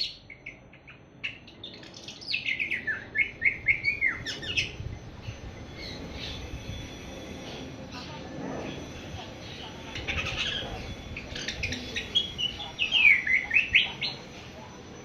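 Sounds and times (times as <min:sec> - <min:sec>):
young bird twittering: 0:00.0 - 0:08.2, 0:08.8 - 0:14.6.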